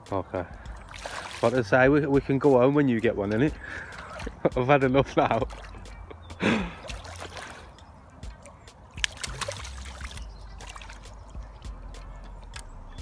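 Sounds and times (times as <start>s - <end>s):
fish thrashing and splashing water: 0.6s - 2.0s, 3.2s - 12.7s.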